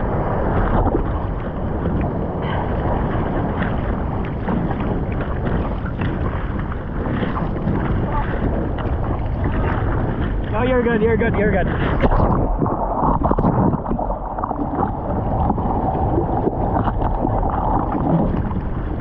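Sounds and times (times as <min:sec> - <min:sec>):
ocean water rushing and splashing: 0:00.0 - 0:19.0
wind noise: 0:00.0 - 0:19.0.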